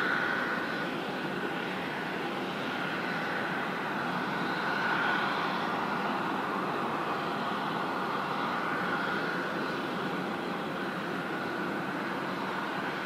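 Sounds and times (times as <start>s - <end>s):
airliner engines running: 0.0s - 13.0s.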